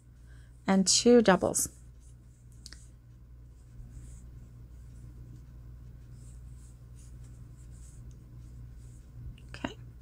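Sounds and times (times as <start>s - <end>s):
yarn rustling with crochet hook: 0.0s - 9.4s
steady low hum: 0.0s - 10.0s.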